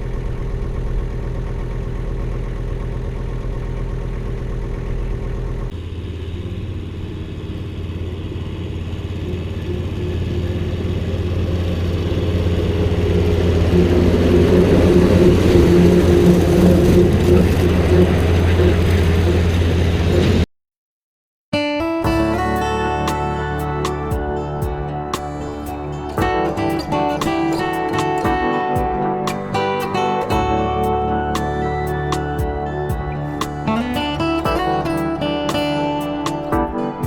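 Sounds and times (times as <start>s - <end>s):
another engine: 0.0s - 20.4s, 22.0s - 37.0s
diesel engine running: 0.0s - 20.4s, 22.0s - 37.0s.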